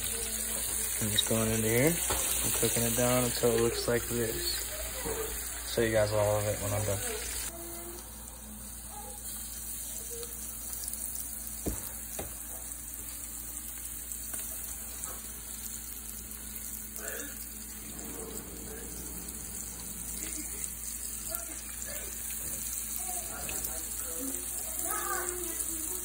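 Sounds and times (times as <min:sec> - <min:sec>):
oil sizzling and bubbling: 0:00.0 - 0:26.0.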